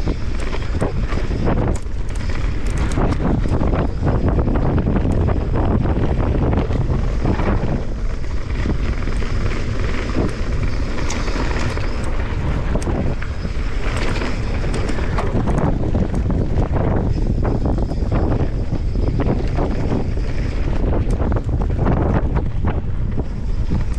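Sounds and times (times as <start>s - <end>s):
bike clicks and rattles: 0.0s - 23.9s
bike tyres rumbling on dirt: 0.0s - 23.9s
wind buffeting microphone: 0.0s - 23.9s.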